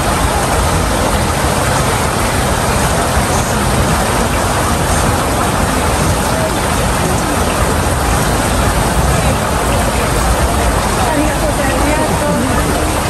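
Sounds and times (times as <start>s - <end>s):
mist sprayers hissing: 0.0s - 13.0s.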